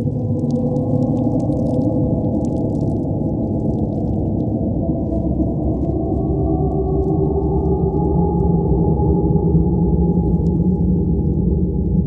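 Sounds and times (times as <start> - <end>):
deep ambient drone: 0.0 - 12.0.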